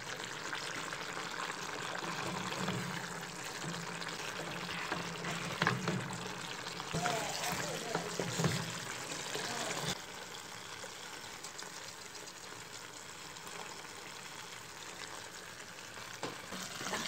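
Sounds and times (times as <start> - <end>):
stew bubbling in a pot: 0.0 - 17.0.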